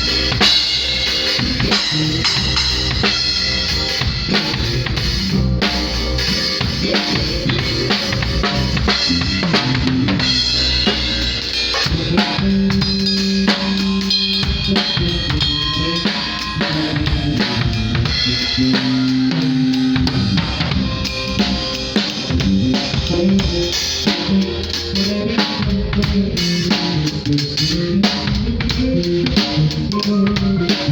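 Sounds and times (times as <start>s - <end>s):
drum kit beat: 0.0s - 30.9s
live band playing: 0.0s - 30.9s
sustained low notes: 0.0s - 30.9s.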